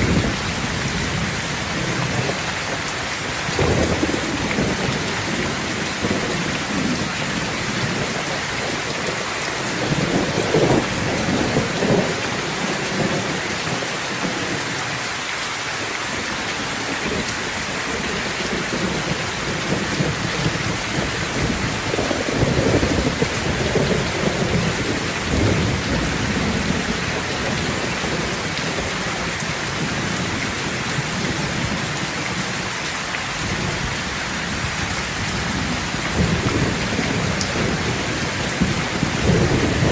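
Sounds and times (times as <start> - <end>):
low rolling thunder: 0.0 - 14.8, 16.2 - 32.7, 33.4 - 39.9
steady rain falling: 0.0 - 39.9.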